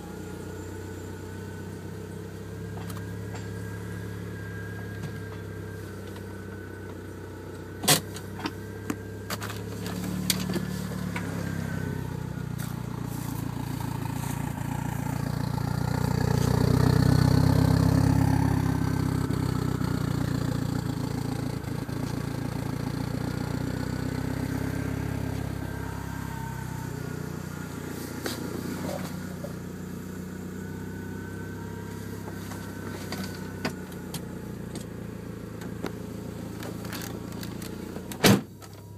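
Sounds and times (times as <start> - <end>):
car engine misfiring and sputtering: 0.0 - 38.9.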